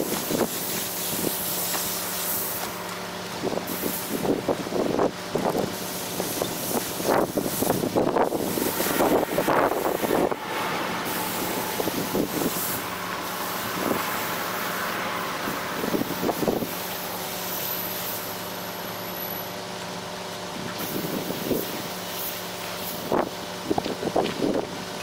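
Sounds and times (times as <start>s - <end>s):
paint spray gun hissing: 0.0s - 19.2s, 20.8s - 23.2s.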